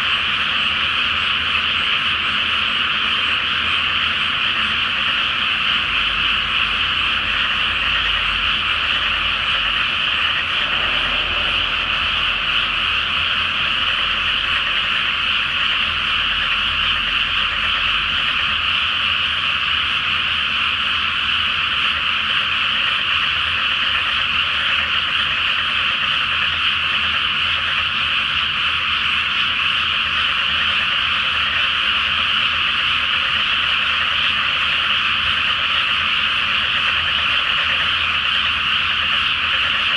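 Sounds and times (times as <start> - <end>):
frogs croaking chorus: 0.0 - 39.9.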